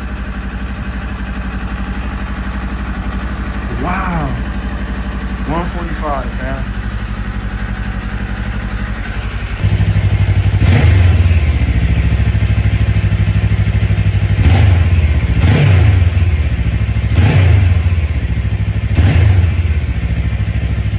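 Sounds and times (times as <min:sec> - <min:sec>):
engine throttle blips: 0:00.0 - 0:20.9
motorcycle engine idling: 0:00.0 - 0:20.9.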